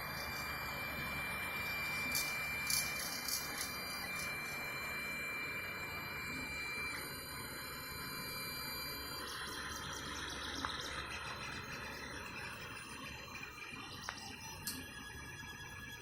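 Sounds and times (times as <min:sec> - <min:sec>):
fans humming: 0:00.0 - 0:16.0
high motor whines: 0:00.0 - 0:16.0.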